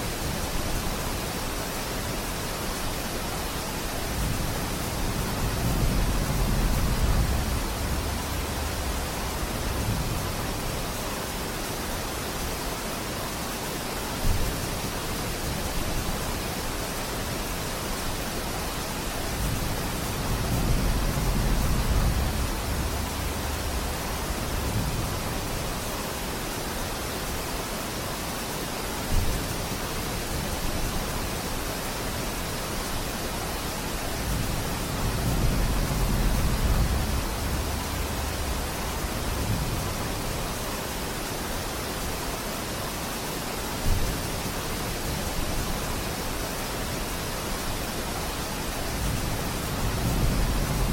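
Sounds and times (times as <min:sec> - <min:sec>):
steady rain in a forest: 0:00.0 - 0:50.9.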